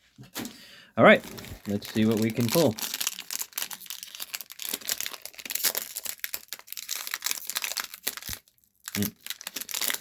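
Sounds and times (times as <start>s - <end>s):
foil wrapper crinkling and tearing: 1.2s - 10.0s.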